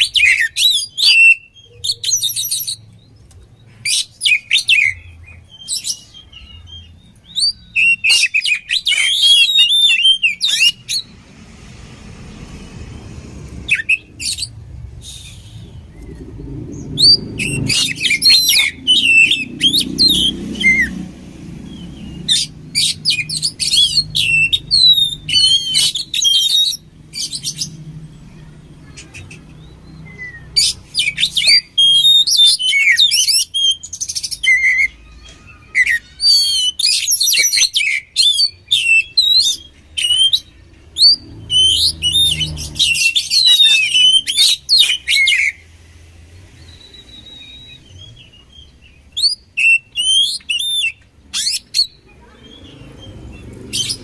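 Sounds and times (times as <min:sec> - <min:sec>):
bird singing whistles and chatter: 0:00.0 - 0:03.0, 0:03.8 - 0:11.2, 0:13.6 - 0:45.7, 0:46.4 - 0:54.0.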